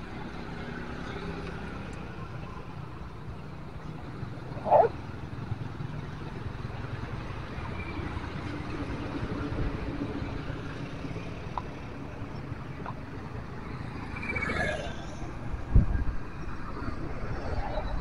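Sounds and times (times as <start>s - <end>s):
cars and scooters passing: 0.0s - 18.0s.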